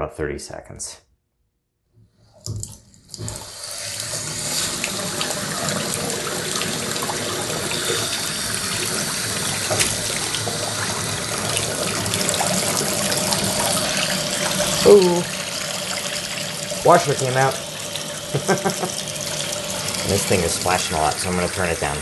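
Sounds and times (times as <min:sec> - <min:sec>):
faucet pouring into sink: 0:02.4 - 0:22.0.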